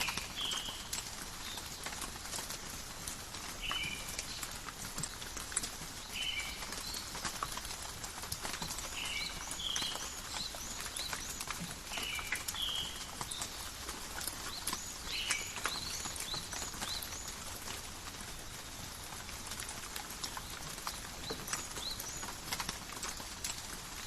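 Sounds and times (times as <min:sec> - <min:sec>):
birds chirping: 0:00.0 - 0:05.2, 0:06.0 - 0:24.0
light rain pattering on leaves: 0:00.0 - 0:24.0.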